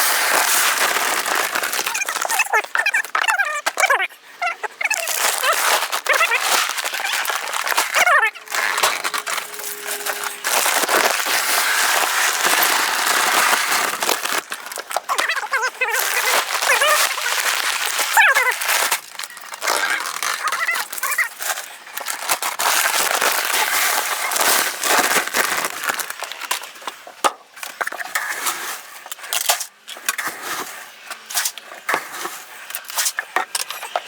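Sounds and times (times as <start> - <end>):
rustling crackling noise: 0.0 - 34.0.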